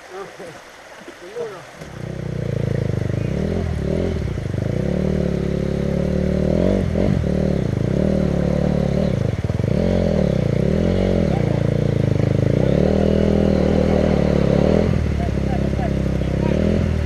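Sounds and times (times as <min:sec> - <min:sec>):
dirt bike engine running: 0:01.8 - 0:17.0.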